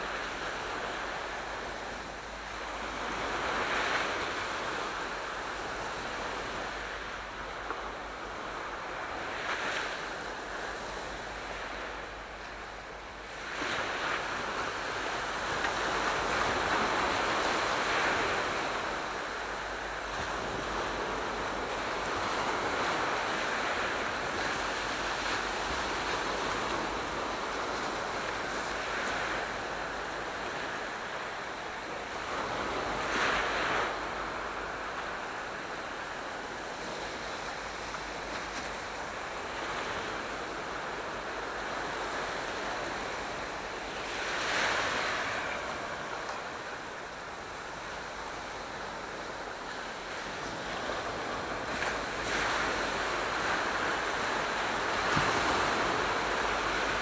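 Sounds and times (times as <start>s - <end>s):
surf hiss: 0.0s - 57.0s
waves breaking: 0.0s - 57.0s.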